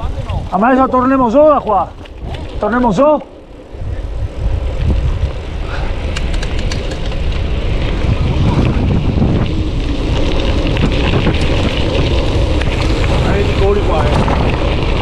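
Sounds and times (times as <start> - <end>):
stones ticking under wheels: 0.0 - 15.0
tyres rolling on gravel: 0.0 - 15.0
wind buffeting microphone: 0.0 - 15.0.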